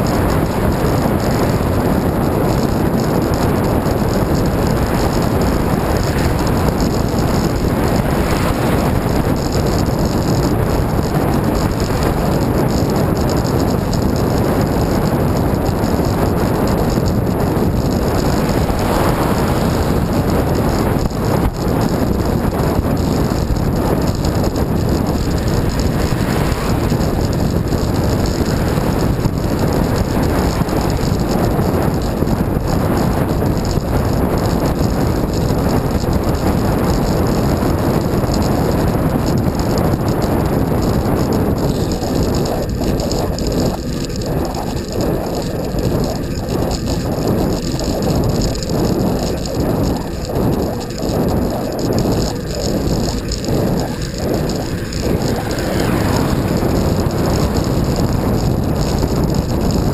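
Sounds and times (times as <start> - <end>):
bicycle tyre road noise: 0.0 - 59.9
wind on microphone: 0.0 - 59.9.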